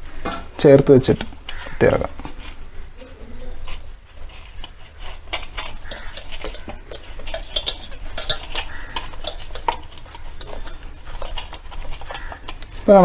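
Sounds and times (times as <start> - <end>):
hands handling raw chicken: 0.0 - 13.0.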